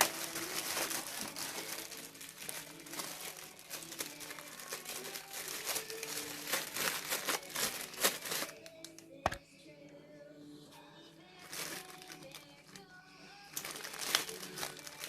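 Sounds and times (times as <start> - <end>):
plastic packaging crinkling: 0.0 - 9.4, 11.3 - 15.0.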